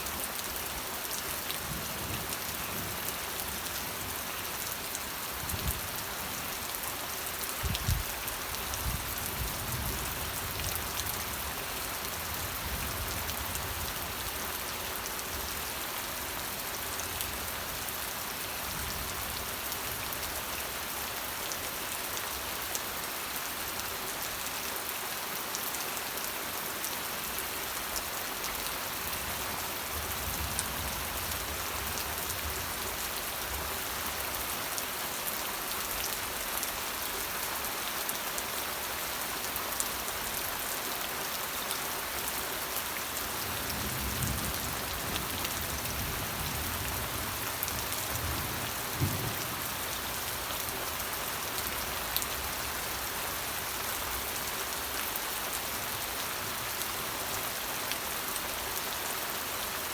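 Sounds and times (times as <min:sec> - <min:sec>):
rain falling on a surface: 0:00.0 - 0:59.9.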